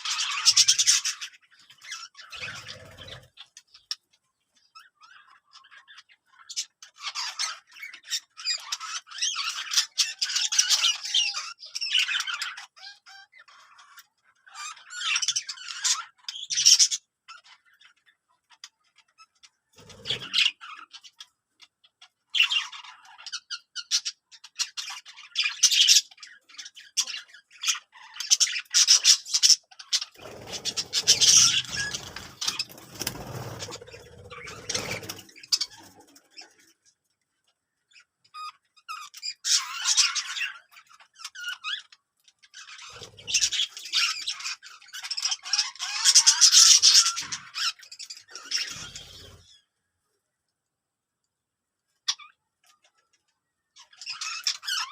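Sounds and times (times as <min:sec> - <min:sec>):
birds chirping and squawking: 0:00.0 - 0:50.2, 0:51.8 - 0:54.9.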